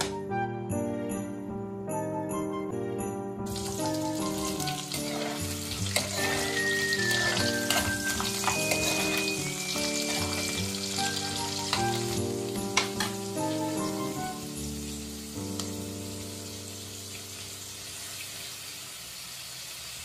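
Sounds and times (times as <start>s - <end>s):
food sizzling in a pan: 3.5s - 20.0s.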